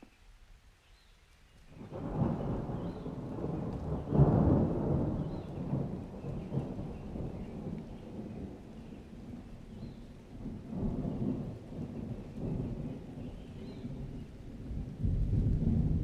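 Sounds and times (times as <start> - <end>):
rain hissing: 0.2 - 16.0
thunder rumbling: 1.8 - 16.0.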